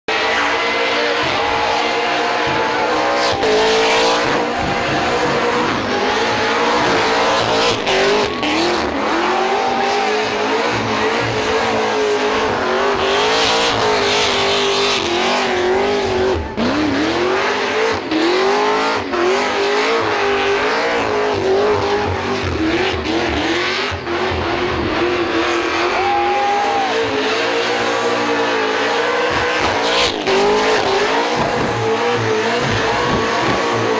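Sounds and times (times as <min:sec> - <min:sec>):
car engine revving high: 0:00.1 - 0:33.9.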